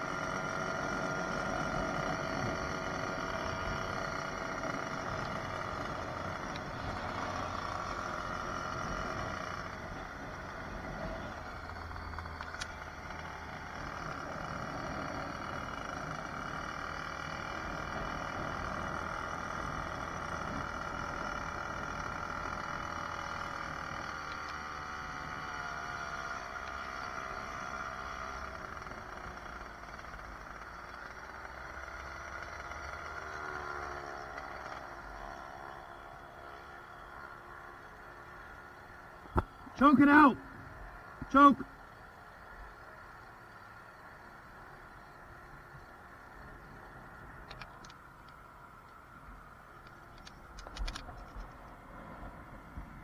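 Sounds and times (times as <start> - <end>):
two-stroke engine running: 0.0 - 53.0.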